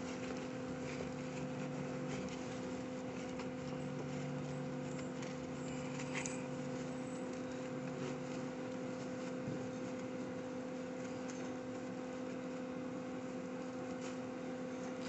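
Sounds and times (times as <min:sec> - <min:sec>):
faint scratching and rustling: 0:00.0 - 0:15.0
mechanical equipment hum: 0:00.0 - 0:15.0.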